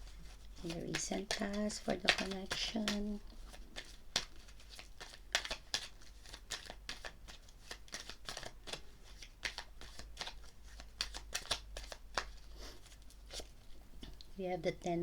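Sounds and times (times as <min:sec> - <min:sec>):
cards shuffled by hand: 0:00.0 - 0:14.2.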